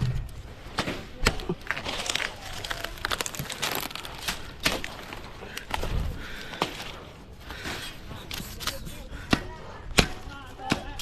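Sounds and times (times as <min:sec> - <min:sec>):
dry fronds crackling and rustling: 0:00.0 - 0:09.2.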